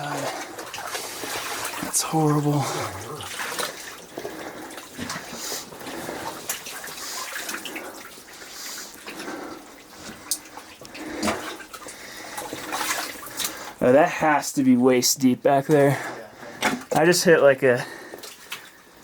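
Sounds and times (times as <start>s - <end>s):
wading through mud and water: 0.0s - 13.8s, 15.6s - 19.0s.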